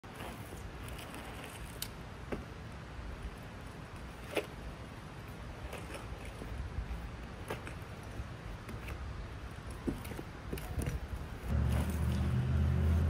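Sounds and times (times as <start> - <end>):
bike tyres rolling on concrete: 0.0 - 13.0.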